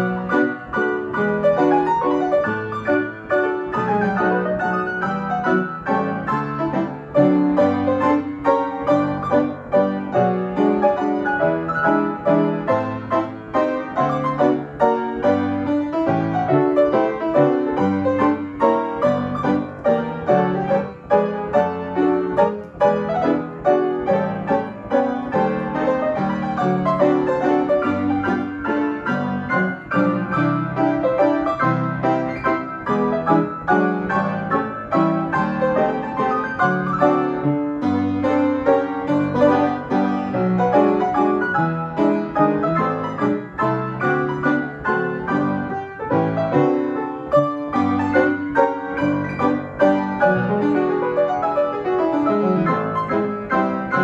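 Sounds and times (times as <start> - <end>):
player piano playing waltz: 0.0 - 54.0.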